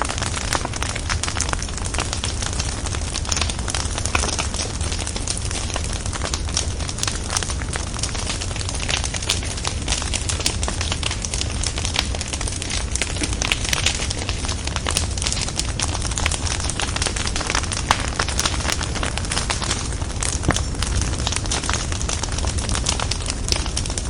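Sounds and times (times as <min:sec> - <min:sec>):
bonfire crackling: 0:00.0 - 0:24.0.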